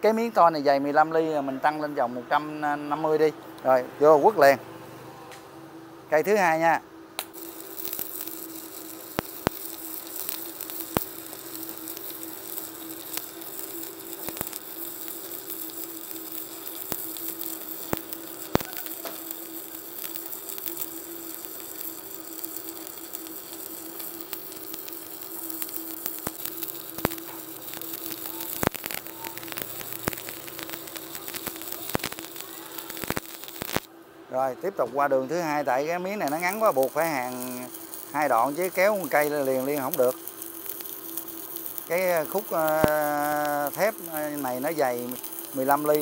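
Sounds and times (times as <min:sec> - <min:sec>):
welder hum: 0:06.0 - 0:46.0
welding arc sizzling and popping: 0:06.1 - 0:46.0.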